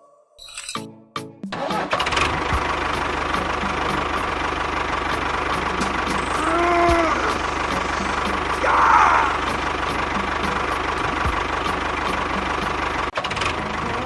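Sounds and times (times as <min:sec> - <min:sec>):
small engine idling: 0:01.7 - 0:14.0.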